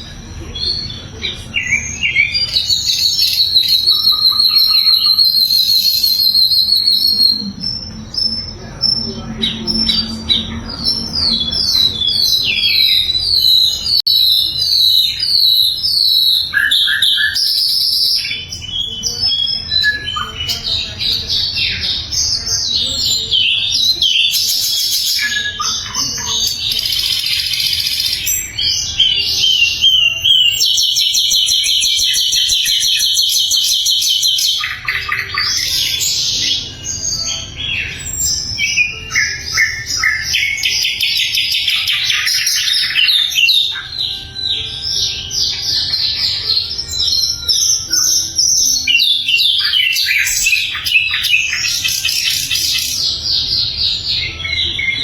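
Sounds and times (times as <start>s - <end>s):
flycatcher singing: 0.0s - 55.0s.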